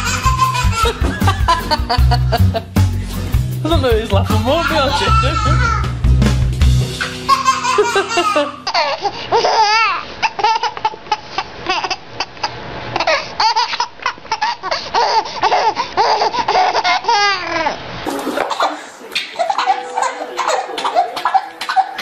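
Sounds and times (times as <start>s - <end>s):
baby laughing: 0.0s - 2.6s, 4.6s - 5.9s, 7.0s - 22.0s.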